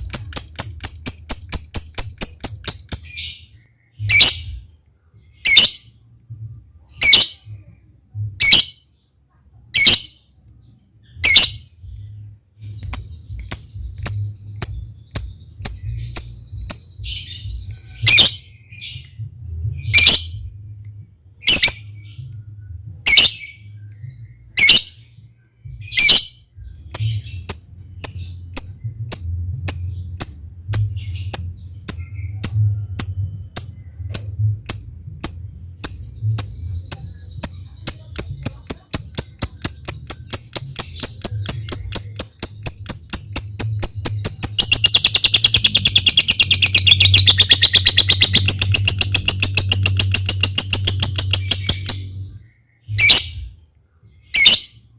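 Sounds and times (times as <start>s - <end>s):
lovebird chirping: 0.0s - 54.9s.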